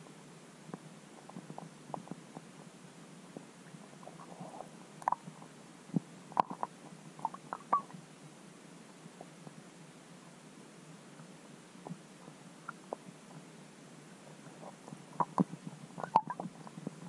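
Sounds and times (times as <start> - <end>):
low underwater hiss: 0.0 - 17.0.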